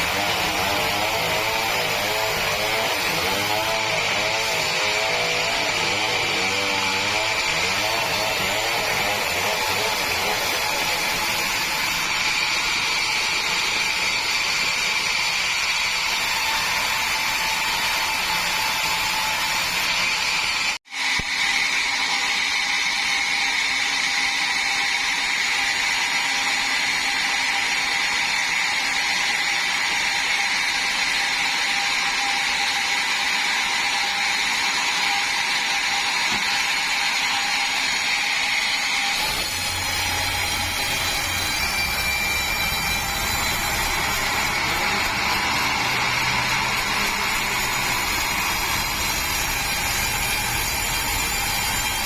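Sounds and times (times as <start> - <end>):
sawmill saw whining: 0.0 - 52.0.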